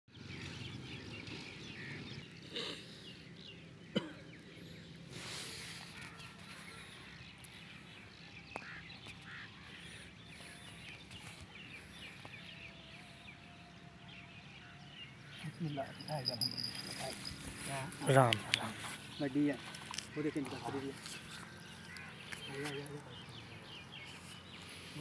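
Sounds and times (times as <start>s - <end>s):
birds chirping and calling: 0.1s - 25.0s.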